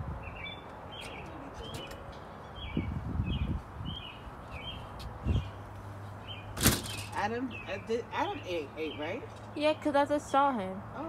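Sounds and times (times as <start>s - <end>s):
small birds chirping: 0.2s - 10.4s.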